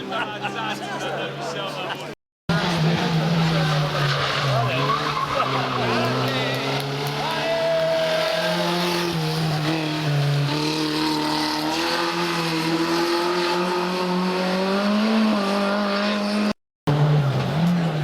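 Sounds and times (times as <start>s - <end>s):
rally car engine accelerating: 2.5s - 18.0s.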